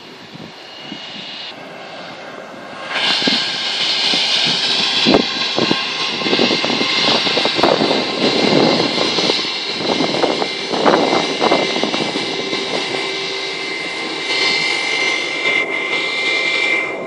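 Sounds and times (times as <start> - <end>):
airplane engines at takeoff: 0.0 - 17.0.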